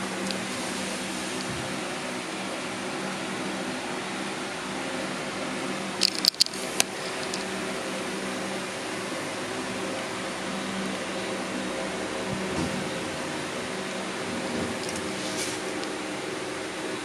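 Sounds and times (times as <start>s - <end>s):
room noise hum and hiss: 0.0s - 17.0s.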